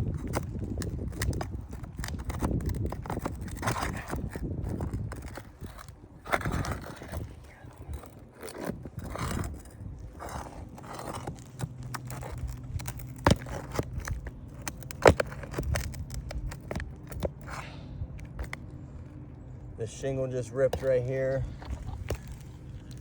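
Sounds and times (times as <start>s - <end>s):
tool scraping roof shingles: 0.0s - 18.6s, 20.6s - 23.0s.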